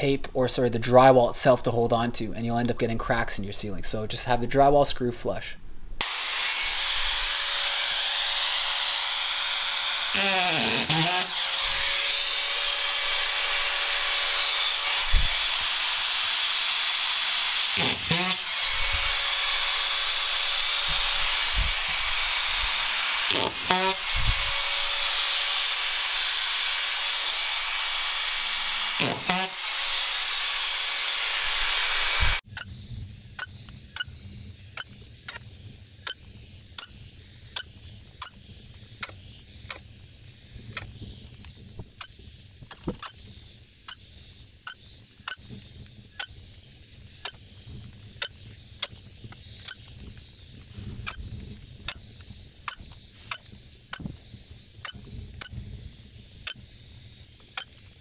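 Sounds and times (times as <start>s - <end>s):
drywall screw gun running: 6.0s - 32.4s, 34.7s - 58.0s.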